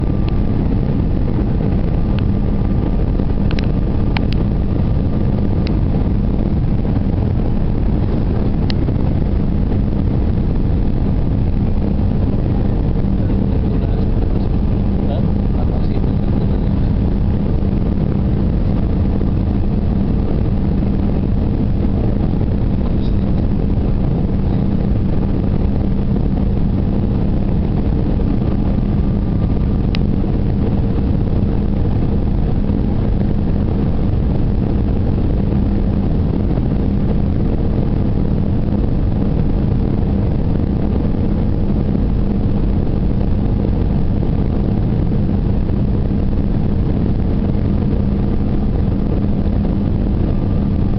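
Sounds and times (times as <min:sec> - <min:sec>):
aircraft cabin engine drone: 0:00.0 - 0:50.9.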